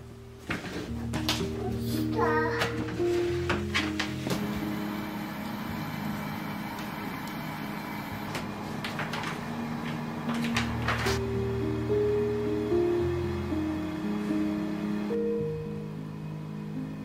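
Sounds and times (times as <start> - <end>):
soft sustained background music: 0.0 - 17.0.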